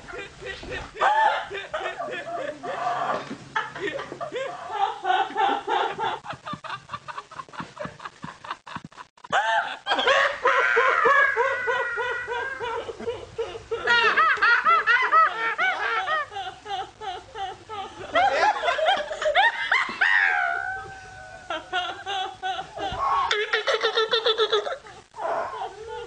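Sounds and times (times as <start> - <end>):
woman laughing breathlessly: 0.0 - 26.0.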